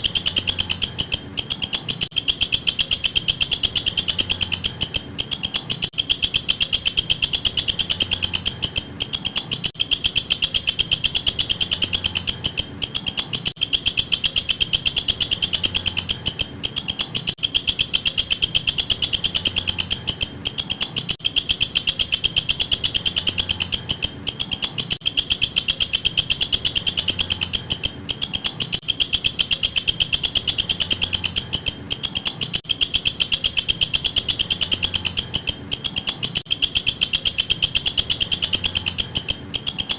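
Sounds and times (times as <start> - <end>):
insect trilling: 0.0 - 39.9.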